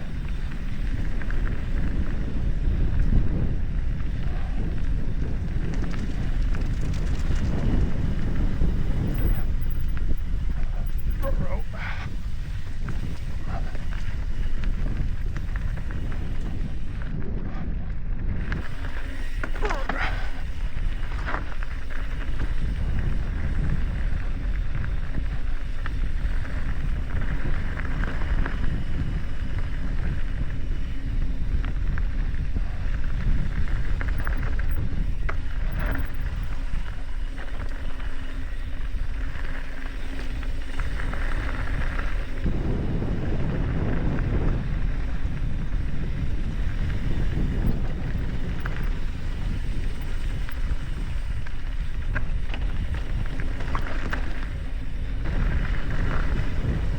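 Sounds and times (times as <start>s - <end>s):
bike rattling over bumps: 0.0s - 56.9s
bike tyres rolling on dirt: 0.0s - 56.9s
wind buffeting microphone: 0.0s - 56.9s.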